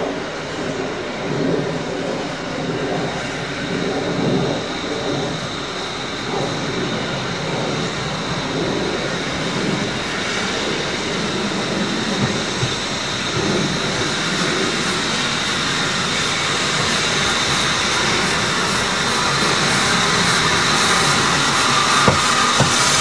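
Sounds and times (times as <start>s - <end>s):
steam hissing from locomotive: 3.0s - 23.0s.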